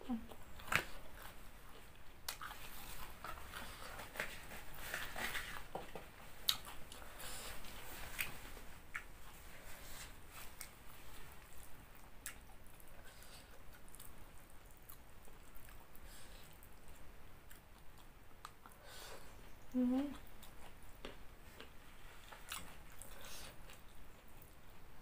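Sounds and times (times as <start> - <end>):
person chewing food: 0.1 - 25.0.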